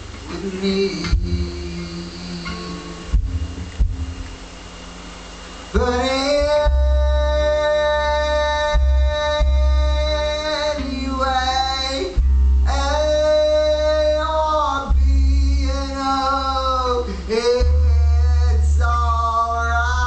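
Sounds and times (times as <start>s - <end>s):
acoustic guitar: 0.0s - 20.0s
double bass low notes: 0.0s - 20.0s
man singing long notes: 0.2s - 3.4s, 5.7s - 20.0s.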